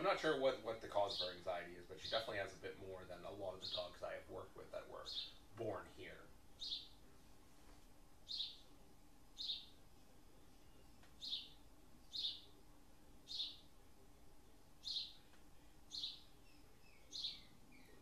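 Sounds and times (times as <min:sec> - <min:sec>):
faint steady hum: 0:00.0 - 0:18.0
bird chirping: 0:00.8 - 0:07.2, 0:08.2 - 0:13.8, 0:14.4 - 0:18.0.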